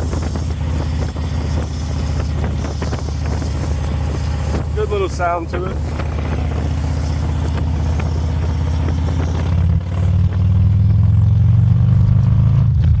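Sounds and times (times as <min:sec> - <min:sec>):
motorcycle engine while riding: 0:00.0 - 0:13.0.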